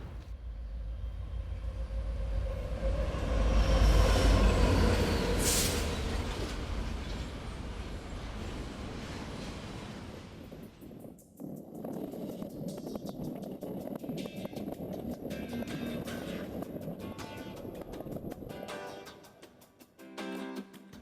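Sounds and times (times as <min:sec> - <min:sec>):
wheel whine: 0:00.0 - 0:19.2
train wheels rumbling on rails: 0:00.0 - 0:19.4.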